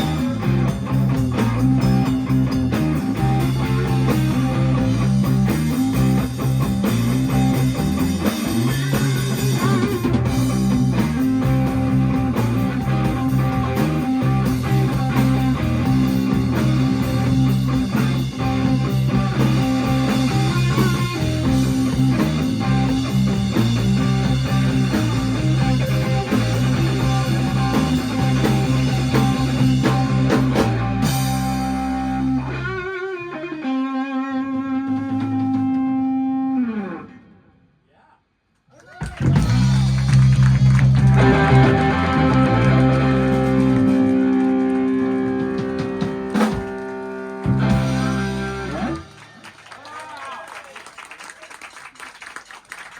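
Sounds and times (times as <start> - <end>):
drums: 0.0 - 33.4, 34.6 - 36.3, 38.7 - 52.9
blues band playing: 0.0 - 37.0, 39.1 - 49.5
bass guitar: 0.0 - 37.4, 39.0 - 49.3
electric guitar notes with bends: 0.0 - 37.6, 39.2 - 49.3.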